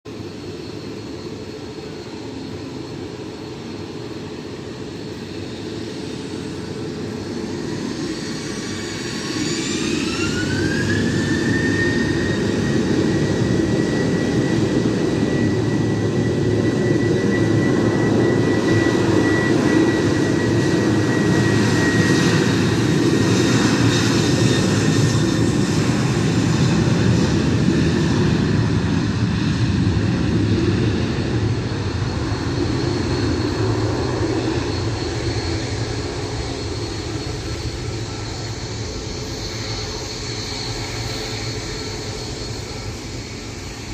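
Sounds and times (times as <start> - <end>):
jet engines low rumble: 0.0 - 43.9
jet engine fan whine: 0.1 - 43.9.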